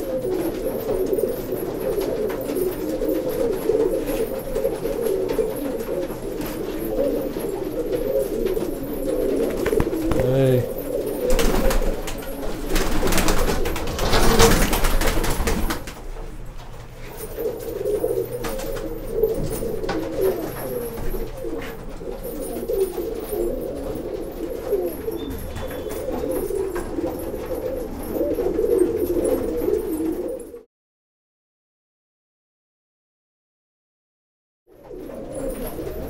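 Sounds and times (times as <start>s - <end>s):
pigeons cooing: 0.0s - 30.7s, 34.7s - 36.0s.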